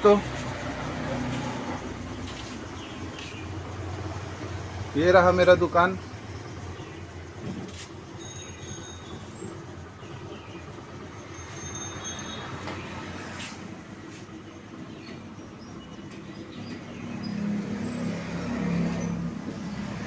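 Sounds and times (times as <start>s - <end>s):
street traffic rumble: 0.0s - 20.0s
vehicle engine hum approaching: 0.0s - 20.0s.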